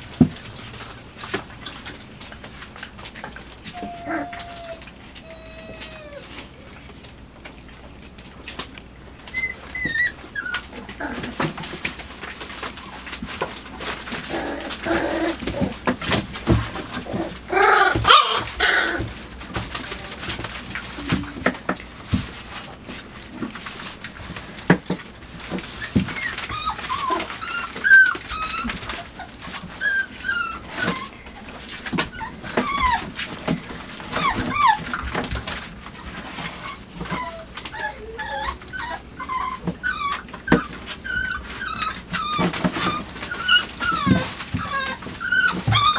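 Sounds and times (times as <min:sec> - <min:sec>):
puppies whining and yipping: 0:01.7 - 0:21.9, 0:25.3 - 0:45.9.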